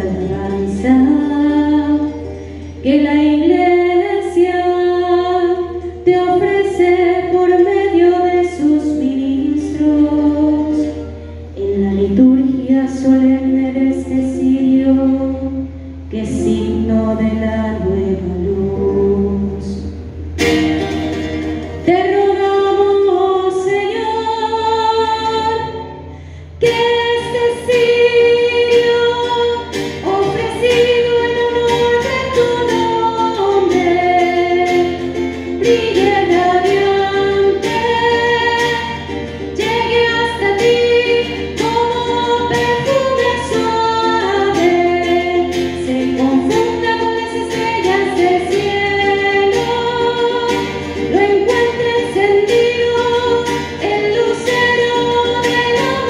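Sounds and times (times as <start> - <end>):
woman singing slow melody: 0.0 - 20.2, 21.6 - 56.0.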